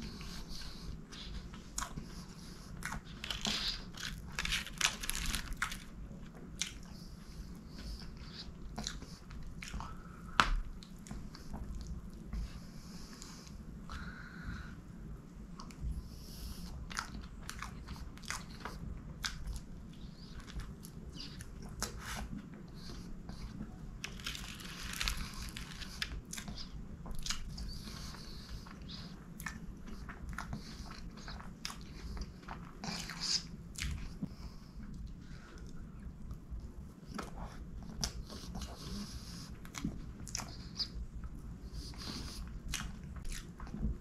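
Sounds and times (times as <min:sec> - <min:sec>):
chewing soft cake: 0:00.0 - 0:44.0.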